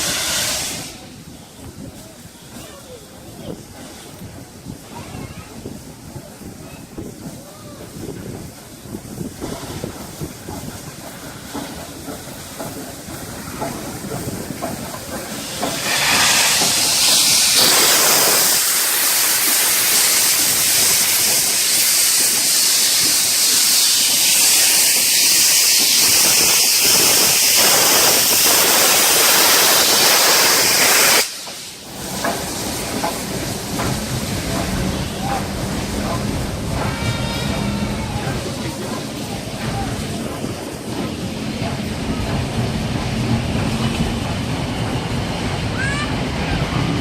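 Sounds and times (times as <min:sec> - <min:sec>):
steam venting hiss: 0:00.0 - 0:47.0.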